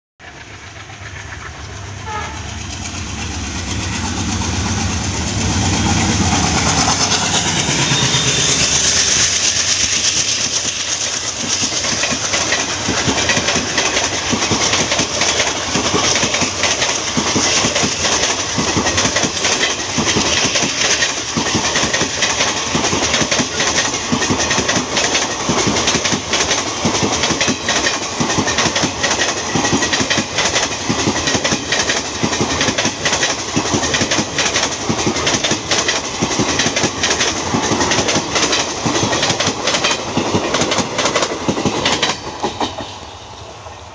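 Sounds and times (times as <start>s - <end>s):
diesel locomotive engine chugging: 0.2s - 43.7s
train wheels clickety-clack: 0.2s - 43.9s.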